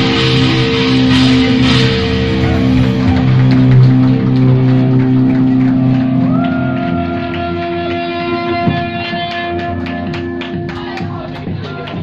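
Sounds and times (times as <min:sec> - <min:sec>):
distorted electric guitars: 0:00.0 - 0:12.0.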